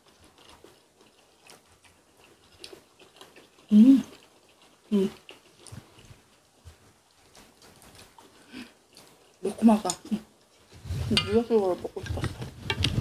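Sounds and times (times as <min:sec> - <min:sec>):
chewing and mouth clicks: 0:00.0 - 0:10.7.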